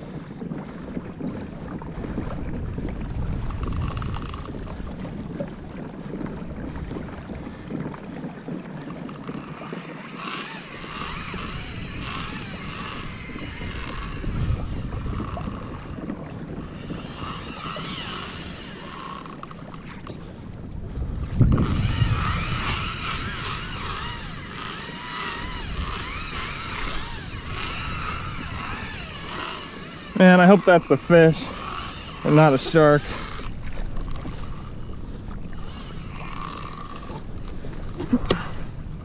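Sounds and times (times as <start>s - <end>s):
water lapping against hull: 0.0s - 39.0s
wind buffeting microphone: 0.0s - 39.0s.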